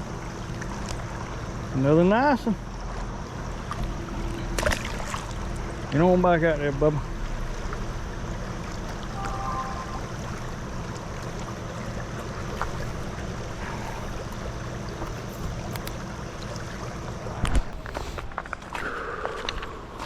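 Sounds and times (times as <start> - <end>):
stream water flowing: 0.0 - 18.9.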